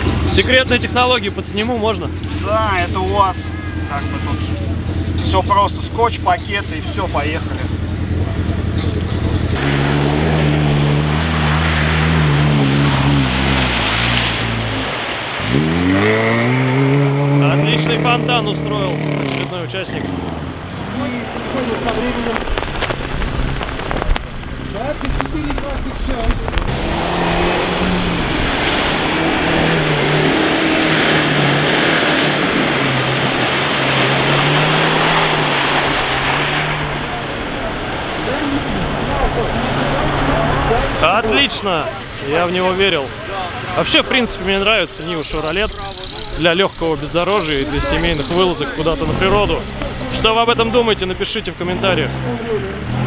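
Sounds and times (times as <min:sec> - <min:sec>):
engine revving: 0:00.0 - 0:53.0
water and mud splashing: 0:00.0 - 0:53.0.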